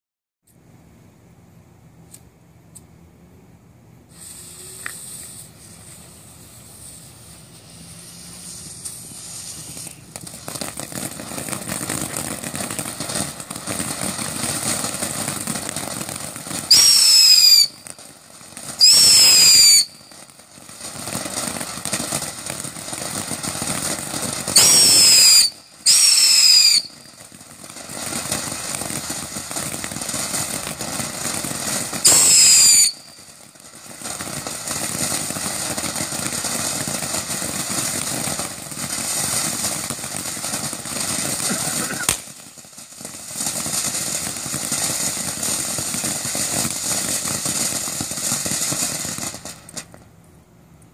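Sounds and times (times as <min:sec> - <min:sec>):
shrill firework whistles: 0:04.1 - 0:49.9
firework spraying sparks hissing: 0:04.1 - 0:50.0.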